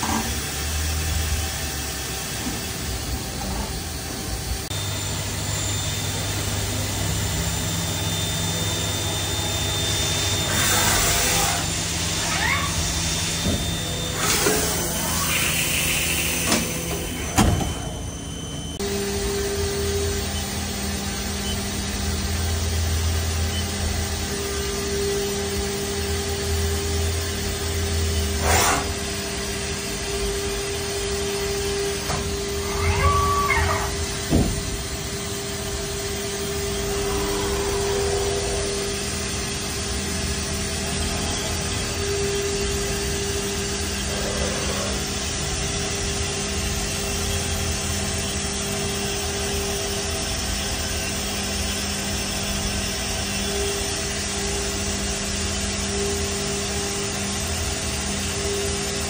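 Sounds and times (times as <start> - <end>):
lathe machine humming: 0.0 - 59.0.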